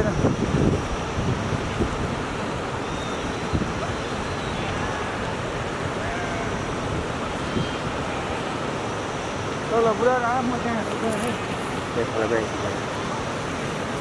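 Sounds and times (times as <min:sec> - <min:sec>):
steady outdoor rushing noise: 0:00.0 - 0:14.0.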